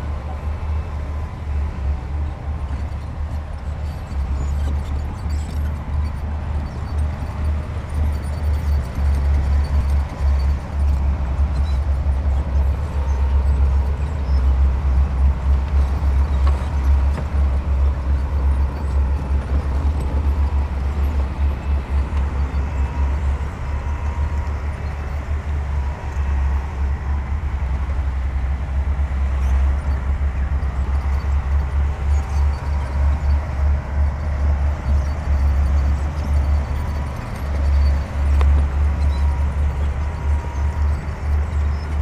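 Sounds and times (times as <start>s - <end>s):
diesel machinery engine rumble: 0.0s - 42.0s.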